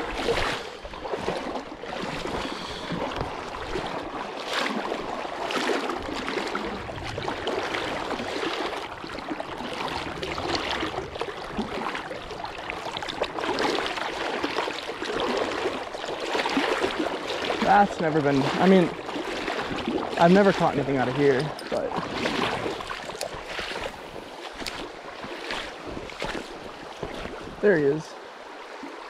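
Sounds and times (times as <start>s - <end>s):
stream burbling over rocks: 1.4s - 29.0s.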